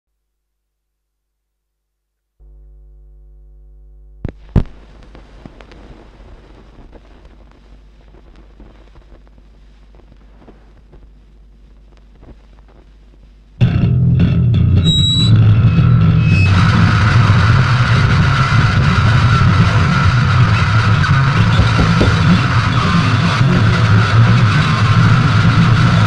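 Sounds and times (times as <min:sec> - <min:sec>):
steady low hum: 0:01.4 - 0:26.0
vinyl surface crackle and pops: 0:02.4 - 0:26.0.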